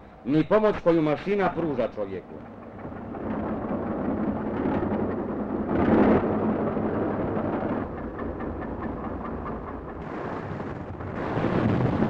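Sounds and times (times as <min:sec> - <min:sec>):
excavator rumble: 0:00.0 - 0:12.0.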